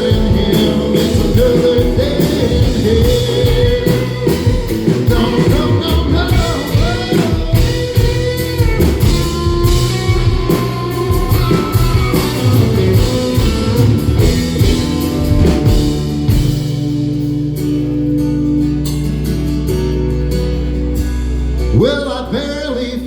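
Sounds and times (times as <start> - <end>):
bass and drums: 0.0 - 23.0
lead guitar bending notes: 0.0 - 23.0.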